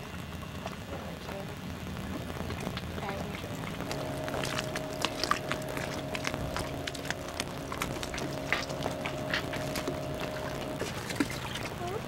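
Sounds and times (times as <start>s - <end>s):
motor hum: 0.0s - 12.0s
water splashing: 0.0s - 12.0s.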